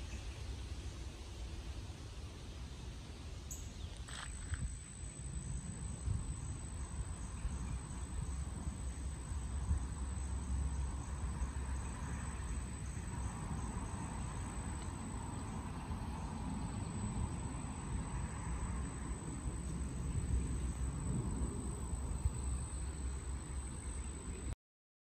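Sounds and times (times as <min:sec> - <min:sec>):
insects trilling: 0:00.0 - 0:24.6.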